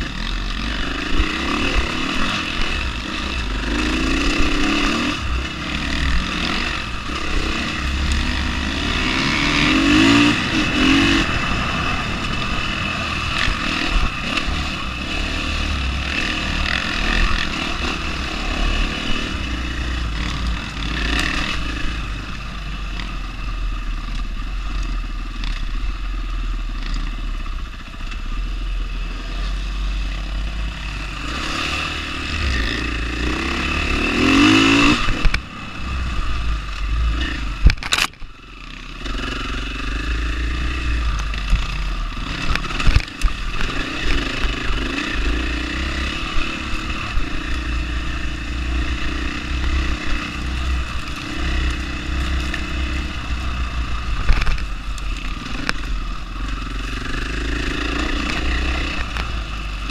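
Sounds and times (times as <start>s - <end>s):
dirt bike engine revving: 0.0s - 27.5s, 28.9s - 59.9s.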